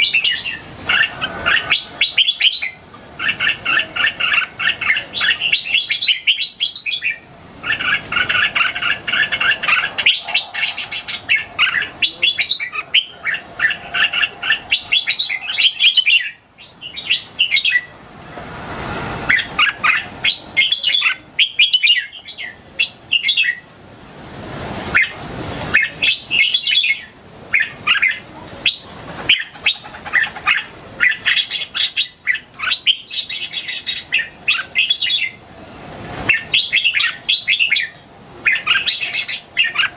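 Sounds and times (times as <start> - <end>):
rushes of hiss-like noise: 0.0 - 6.0, 6.7 - 31.9, 33.2 - 37.3
bulbul singing: 0.0 - 18.0, 19.3 - 23.7, 24.9 - 35.4, 36.3 - 39.9.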